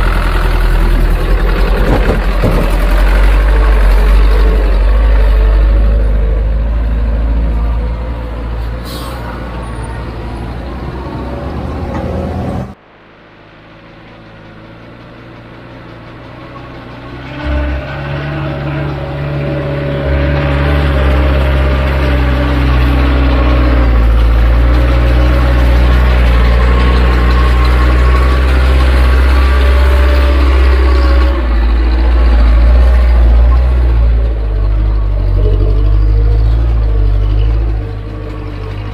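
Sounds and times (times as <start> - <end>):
heavy machine engines running: 0.0 - 38.9.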